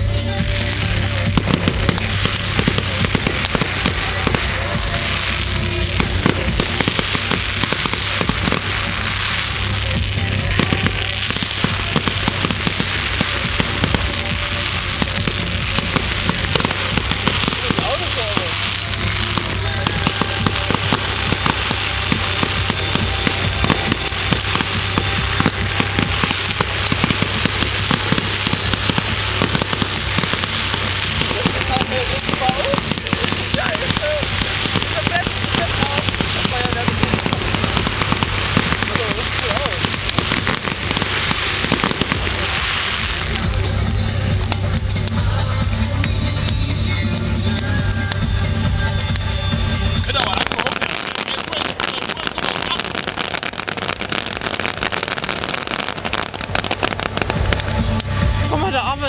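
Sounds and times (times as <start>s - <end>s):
background music: 0.0s - 59.0s
fireworks cracking and banging: 0.0s - 59.0s.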